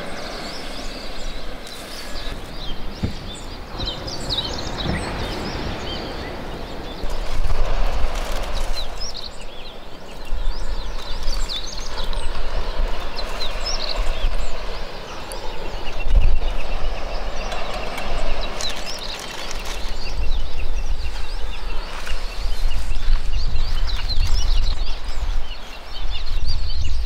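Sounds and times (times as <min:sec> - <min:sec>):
birds chirping: 0:00.0 - 0:27.0
wind rumble on microphone: 0:00.0 - 0:27.0.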